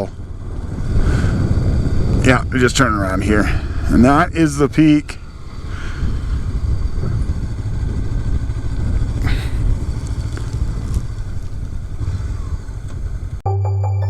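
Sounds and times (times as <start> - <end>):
gusting wind rumble: 0.0 - 13.4
motorcycle engine running: 0.0 - 13.4.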